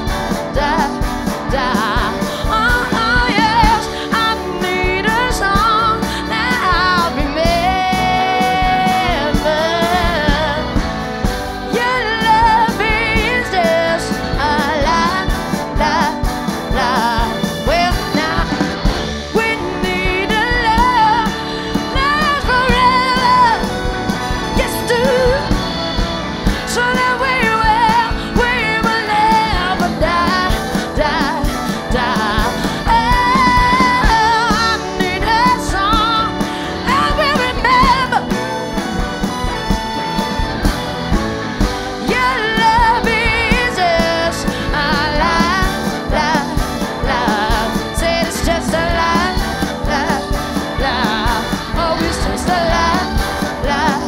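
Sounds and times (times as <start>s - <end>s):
rock band playing: 0.0s - 54.0s
woman singing: 0.0s - 54.0s.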